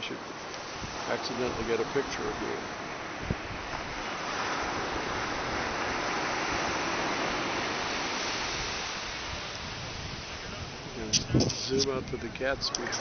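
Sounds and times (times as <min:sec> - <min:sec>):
ocean surf: 0:00.0 - 0:13.0
wind rushing: 0:00.6 - 0:13.0.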